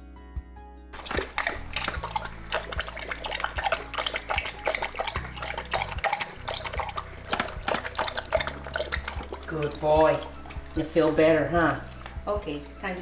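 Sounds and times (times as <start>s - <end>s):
dog lapping water: 1.0s - 12.8s.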